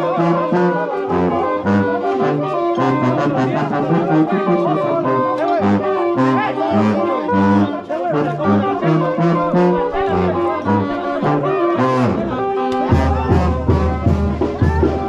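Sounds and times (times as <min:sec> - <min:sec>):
brass band playing: 0:00.0 - 0:15.0
tuba bass line: 0:00.0 - 0:15.0.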